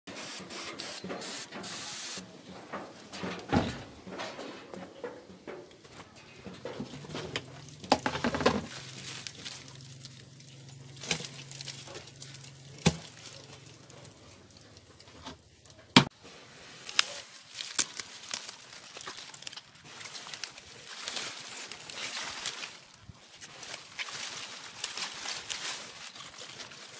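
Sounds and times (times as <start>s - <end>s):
rustling and crinkling greens: 2.2s - 26.9s.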